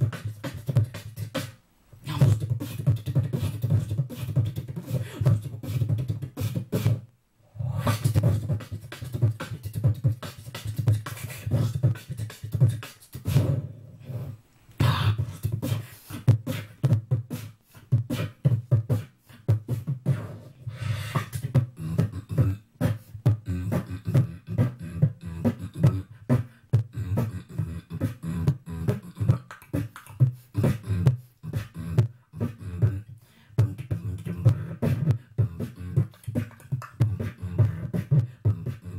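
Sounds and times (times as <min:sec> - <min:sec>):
person beatboxing into a microphone: 0:00.0 - 0:38.9.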